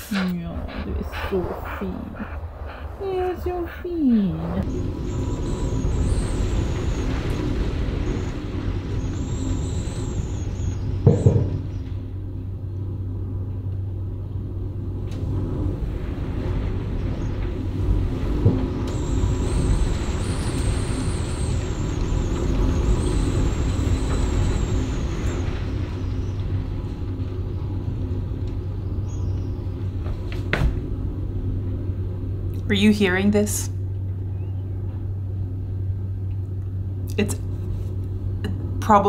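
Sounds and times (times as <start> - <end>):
storm wind buffeting cabin: 0.0 - 34.3.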